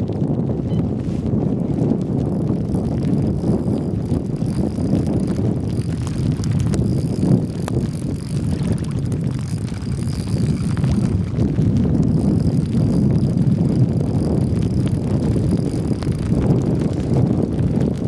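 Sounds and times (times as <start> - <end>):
choppy lake water: 0.0 - 18.0
wind buffeting microphone: 0.0 - 18.0.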